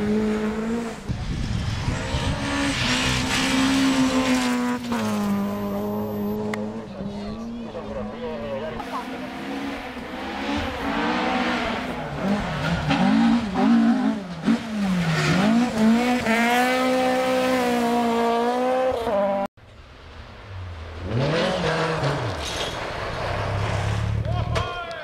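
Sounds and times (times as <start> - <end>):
rally car engine revving: 0.0 - 19.5, 20.3 - 24.6.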